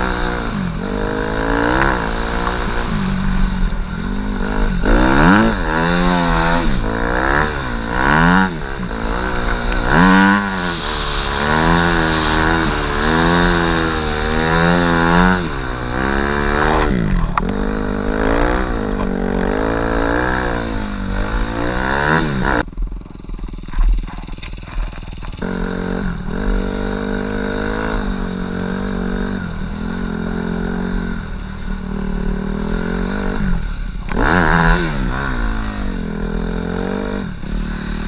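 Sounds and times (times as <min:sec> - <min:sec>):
snow bike engine revving: 0:00.0 - 0:38.0.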